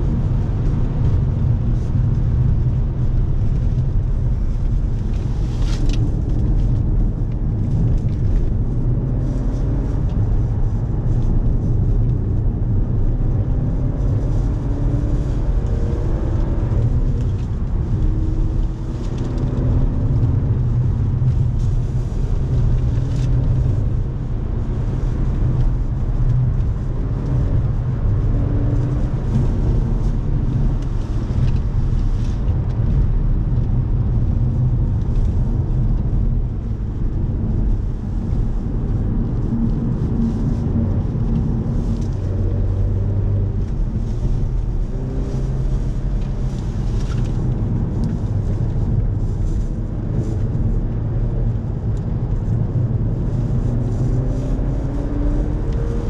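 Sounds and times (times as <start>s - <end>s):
car engine rumble from inside cabin: 0.0s - 56.0s.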